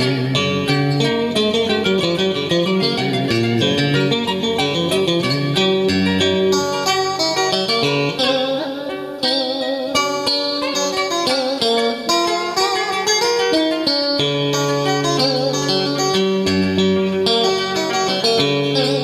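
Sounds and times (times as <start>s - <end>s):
plucked guitar melody: 0.0s - 19.0s.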